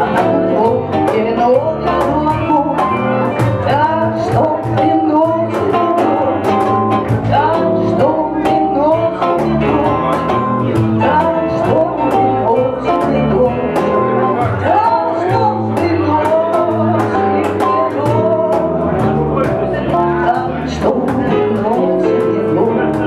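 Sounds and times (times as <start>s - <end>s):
live band playing: 0.0s - 23.0s
woman singing: 0.0s - 23.0s.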